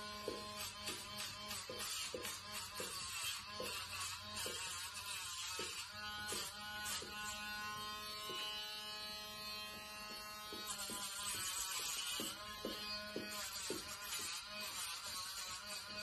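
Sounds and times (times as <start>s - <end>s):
small electric motor buzzing: 0.0s - 16.0s.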